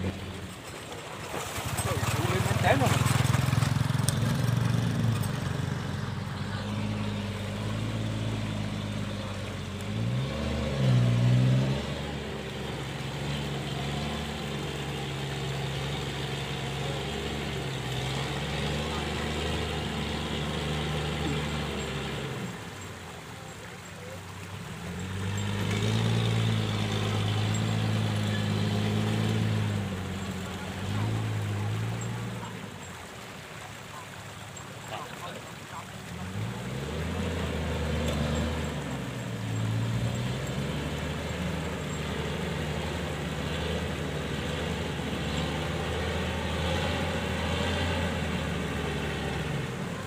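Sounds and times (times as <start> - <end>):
combine harvester diesel engine: 0.0 - 50.0
truck engine running: 0.0 - 50.0.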